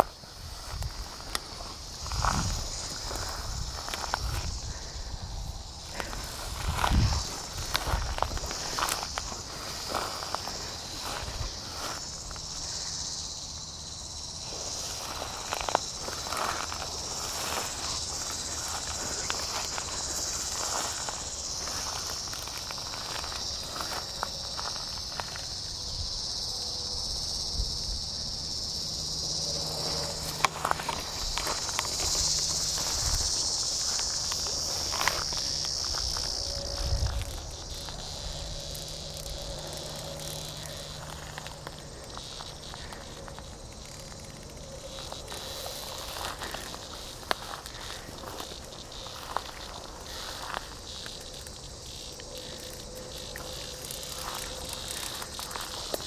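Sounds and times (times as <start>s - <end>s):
footsteps through tall grass: 0.0s - 26.4s, 29.0s - 44.2s, 44.8s - 56.0s
cicadas buzzing: 0.0s - 56.0s.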